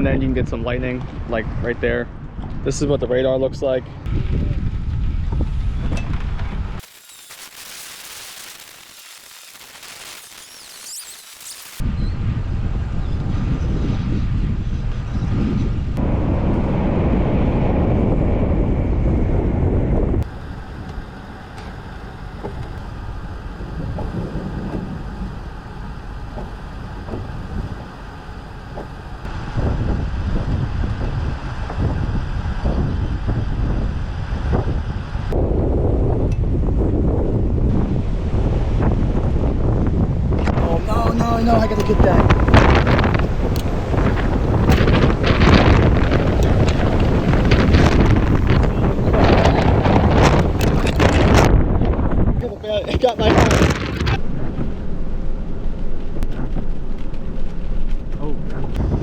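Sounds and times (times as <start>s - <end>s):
wind buffeting microphone: 0.0s - 6.8s, 11.8s - 59.0s.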